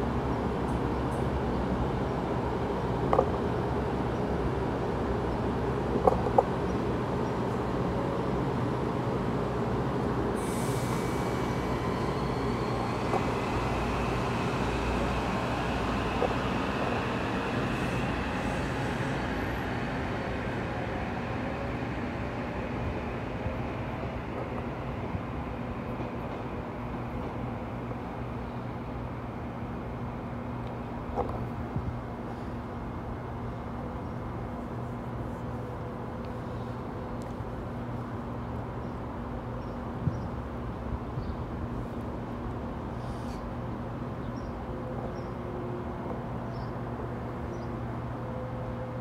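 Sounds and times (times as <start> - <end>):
train rolling rumble: 0.0 - 49.0.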